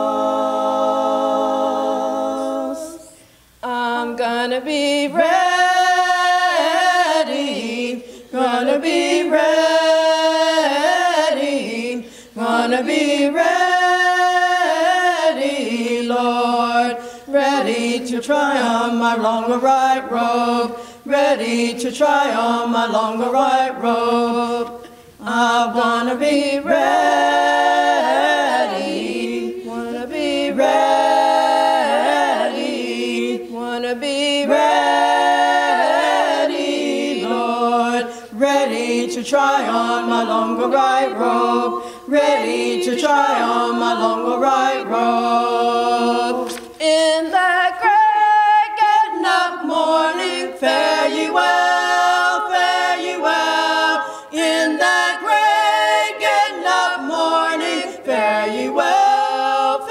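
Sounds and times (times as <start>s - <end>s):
women singing a cappella: 0.0s - 59.9s.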